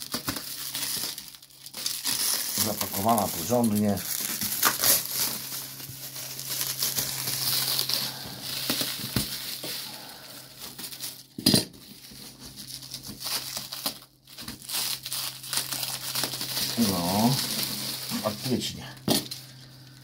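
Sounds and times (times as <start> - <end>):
low steady hum: 0.0 - 20.0
plastic bag crinkling: 0.0 - 20.0.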